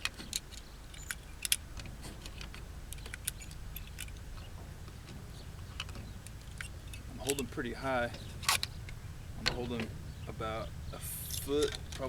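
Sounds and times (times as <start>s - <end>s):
rifle clicks and metallic rattles: 0.0s - 10.0s, 11.2s - 12.0s
low steady rumble: 0.0s - 12.0s.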